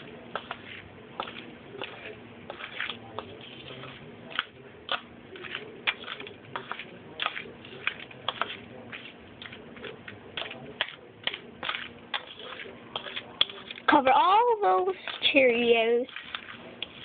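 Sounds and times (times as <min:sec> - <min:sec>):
spoon stirring cereal in bowl: 0:00.0 - 0:17.0.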